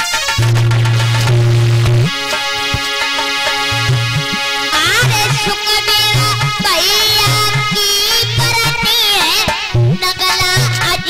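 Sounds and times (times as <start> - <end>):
ornamented folk melody: 0.0 - 11.0.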